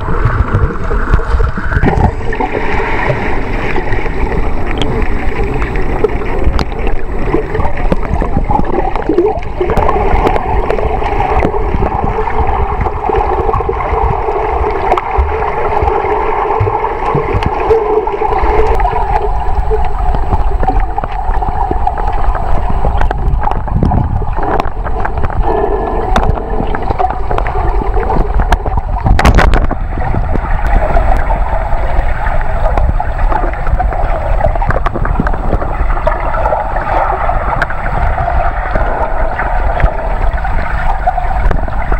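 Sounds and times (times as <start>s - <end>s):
water sloshing and gurgling: 0.0s - 41.9s.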